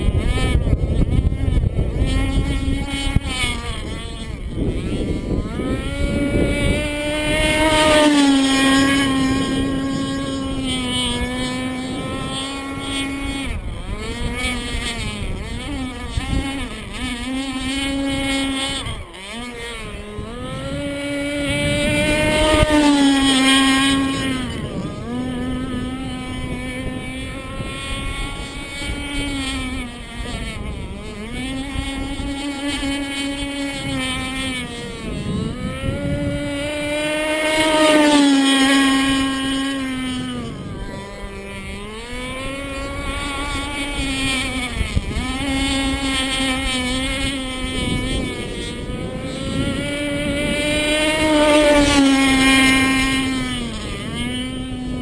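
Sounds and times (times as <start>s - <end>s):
model boat motor whining: 0.0s - 55.0s.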